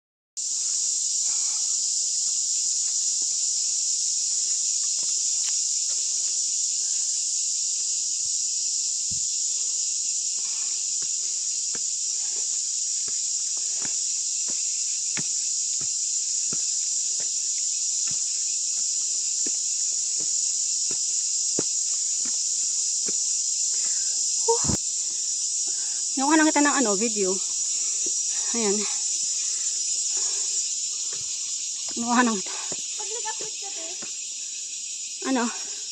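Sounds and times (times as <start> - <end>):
high-pitched insect chorus: 0.4 - 35.9.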